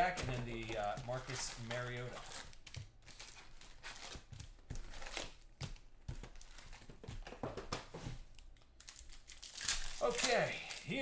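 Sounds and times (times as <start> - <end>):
card pack wrappers crinkling: 0.0 - 7.2, 8.2 - 11.0.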